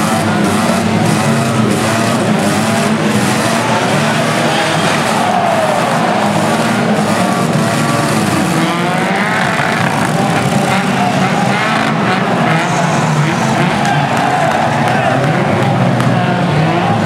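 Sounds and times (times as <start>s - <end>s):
racing car engines revving: 0.0s - 17.0s.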